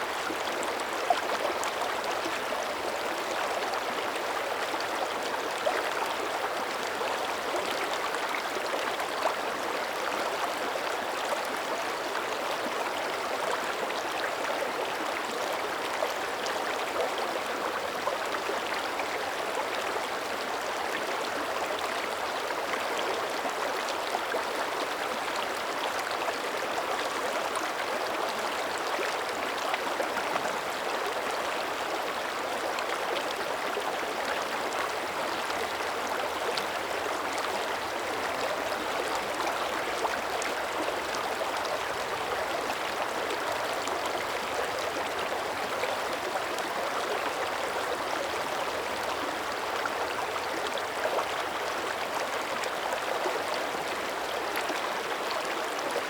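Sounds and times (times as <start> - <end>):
creek water gurgling over rocks: 0.0 - 56.0.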